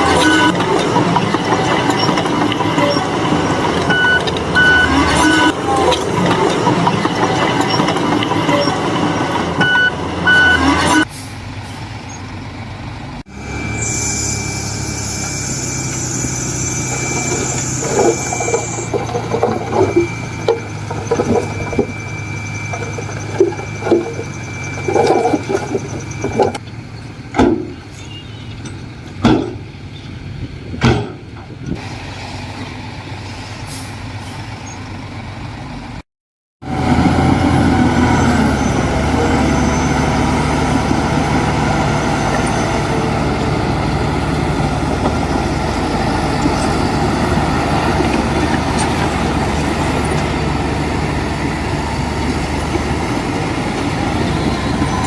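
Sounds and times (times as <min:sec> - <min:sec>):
heavy diesel machinery engine running: 0:00.0 - 0:30.7, 0:36.6 - 0:55.0.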